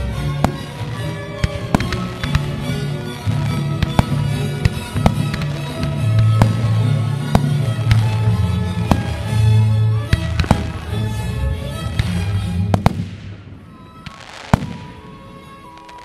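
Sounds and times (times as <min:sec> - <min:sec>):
fireworks bangs and crackle: 0:00.0 - 0:11.2, 0:11.8 - 0:16.0
loud music: 0:00.0 - 0:13.4.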